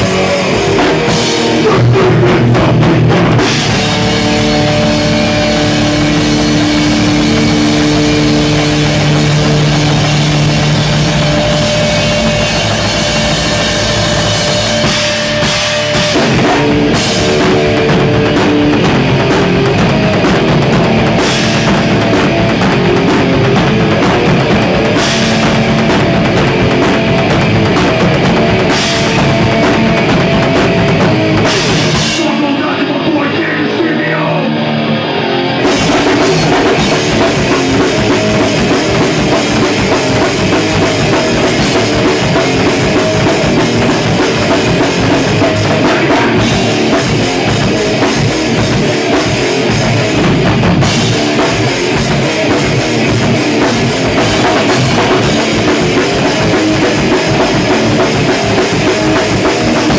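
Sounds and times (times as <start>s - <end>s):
distorted electric guitar: 0.0s - 59.9s
drum kit: 0.0s - 59.9s
heavy rock band playing: 0.0s - 59.9s.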